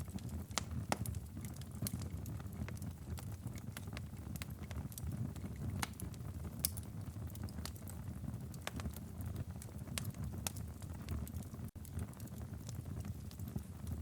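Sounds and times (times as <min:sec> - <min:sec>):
fire popping: 0:00.0 - 0:14.0
low rumble of fire: 0:00.0 - 0:14.0
wood fire crackling: 0:00.0 - 0:14.0.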